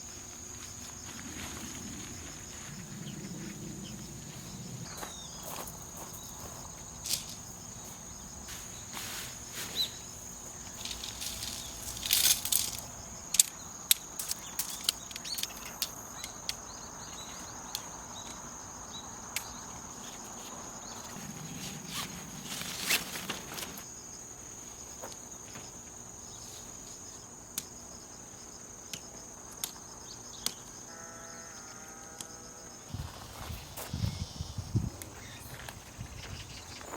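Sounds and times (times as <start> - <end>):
crickets chirring: 0.0 - 36.9.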